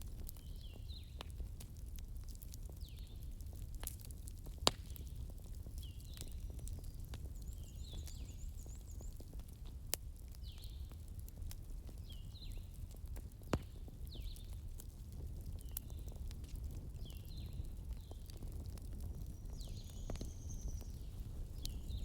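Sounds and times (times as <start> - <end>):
sharp pops of fire: 0.0 - 10.7, 11.4 - 22.0
low fire rumble: 0.0 - 22.0
wood fire crackling: 0.0 - 22.0.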